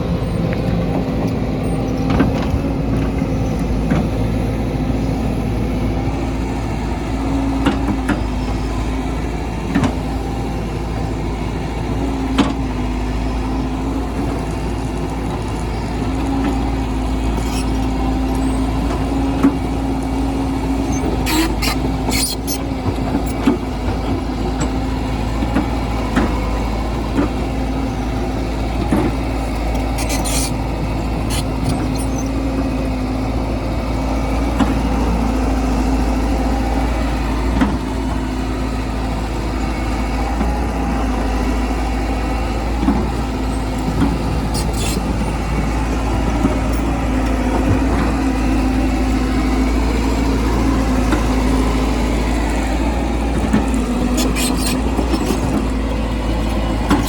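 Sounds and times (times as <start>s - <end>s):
heavy machine engine rumbling: 0.0s - 57.0s.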